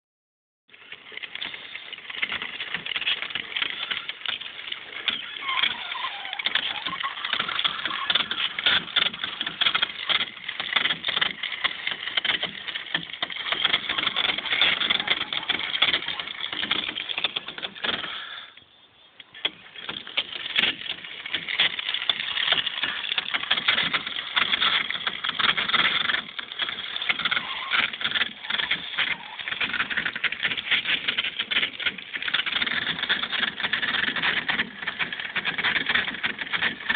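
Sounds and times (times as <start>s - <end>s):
machine rattling clatter: 0.7s - 18.5s, 19.4s - 36.9s.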